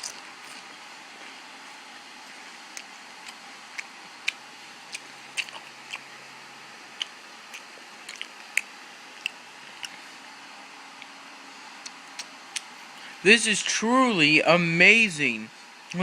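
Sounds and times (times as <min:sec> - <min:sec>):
chewing crunchy chips: 0:00.0 - 0:13.2.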